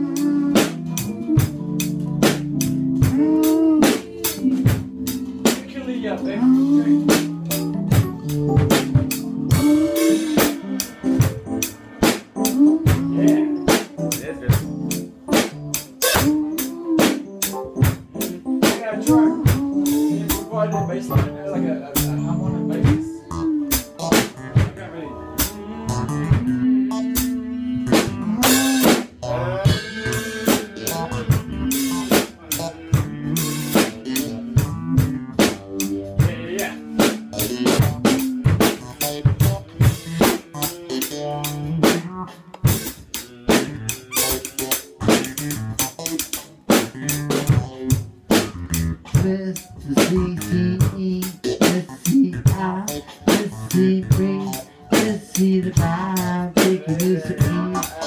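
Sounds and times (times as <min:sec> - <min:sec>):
live band music: 0:00.0 - 0:58.0.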